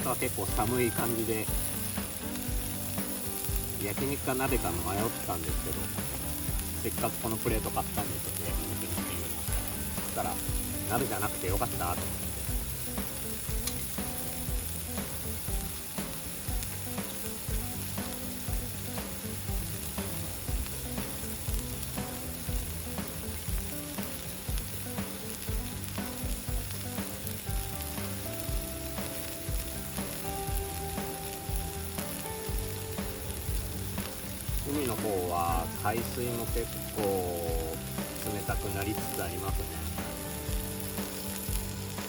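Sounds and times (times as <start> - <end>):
meat sizzling on a griddle: 0.0 - 42.0.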